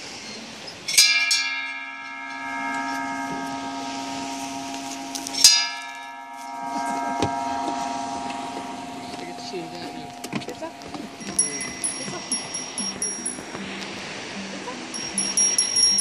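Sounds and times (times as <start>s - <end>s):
large bell ringing: 0.9s - 16.0s.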